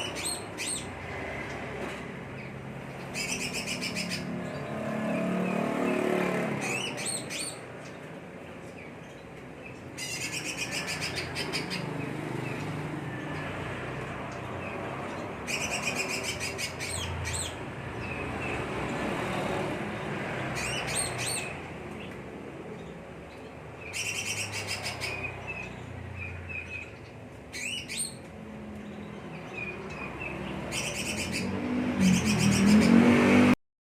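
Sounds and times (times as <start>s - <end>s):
bird chattering song: 0.0s - 13.6s, 14.2s - 19.1s, 20.4s - 33.0s.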